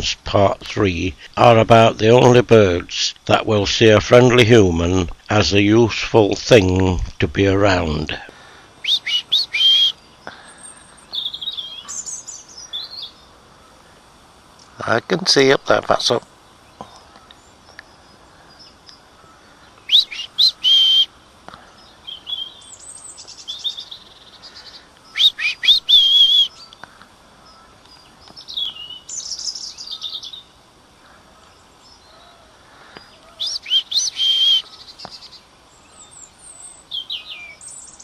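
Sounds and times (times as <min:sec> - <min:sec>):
robin singing: 0:00.0 - 0:38.0.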